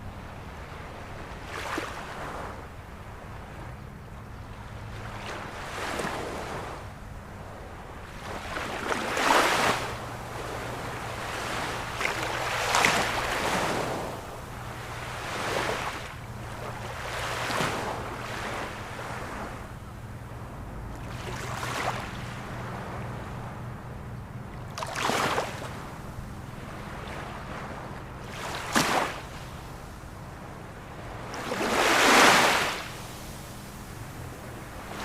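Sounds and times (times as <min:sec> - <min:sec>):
ocean waves washing in: 0:04.6 - 0:35.0.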